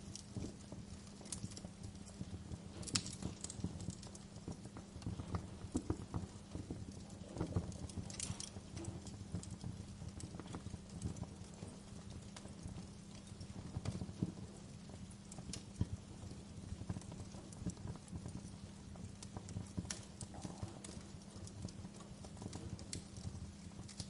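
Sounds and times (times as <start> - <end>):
fireplace fire crackling: 0.0 - 24.0
low steady rumble: 0.0 - 24.0.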